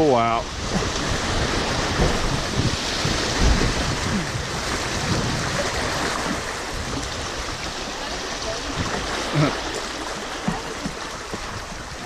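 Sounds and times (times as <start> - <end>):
rushing rapids: 0.0 - 12.0
wind buffeting microphone: 0.0 - 12.0.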